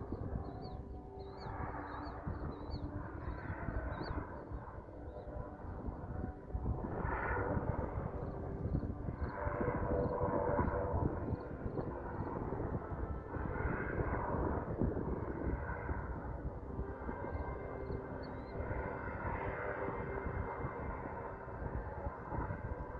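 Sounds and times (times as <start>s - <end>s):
aircraft engine running: 0.0s - 22.9s
wind on microphone: 0.0s - 22.9s.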